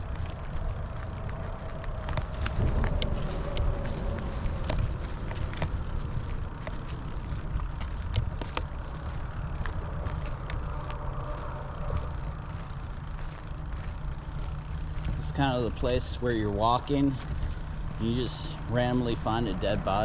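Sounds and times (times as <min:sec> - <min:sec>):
bicycle rumbling over rough path: 0:00.0 - 0:20.0
sharp clicks and ticks: 0:00.0 - 0:20.0.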